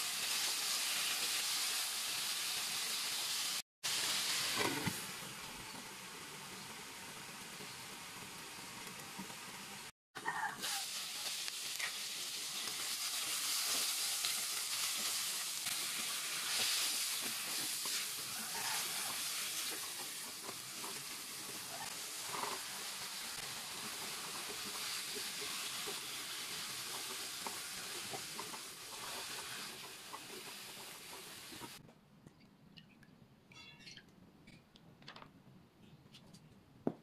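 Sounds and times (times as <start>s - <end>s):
food sizzling in a pan: 0.0s - 31.8s.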